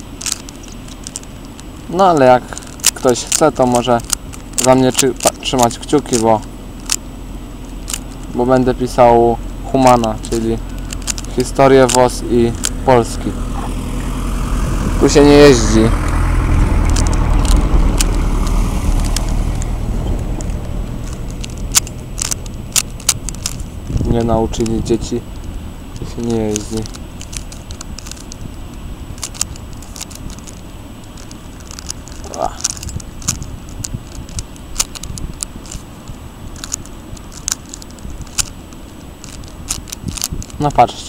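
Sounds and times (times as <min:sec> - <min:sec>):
puzzle cube clicking: 0:00.0 - 0:09.1, 0:09.7 - 0:14.3, 0:15.5 - 0:40.8
vehicle engine rumbling: 0:00.0 - 0:41.0.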